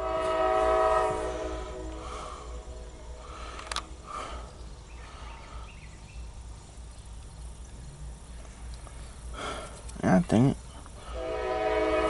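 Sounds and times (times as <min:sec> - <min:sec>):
distant diesel locomotives rumbling: 0:00.0 - 0:12.0
faint outdoor chirps: 0:00.0 - 0:12.0.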